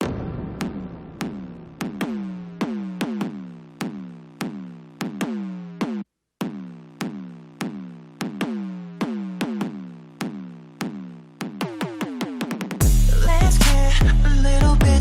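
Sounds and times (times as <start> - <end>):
electronic music with drum-machine beat: 0.0 - 15.0.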